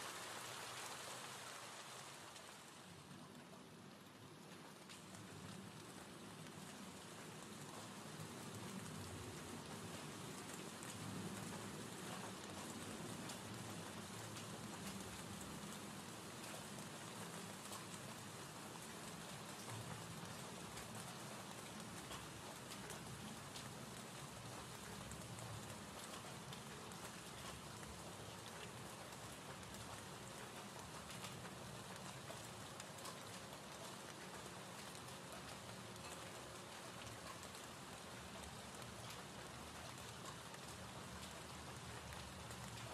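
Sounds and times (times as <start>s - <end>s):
gentle rain hiss: 0.0s - 42.9s.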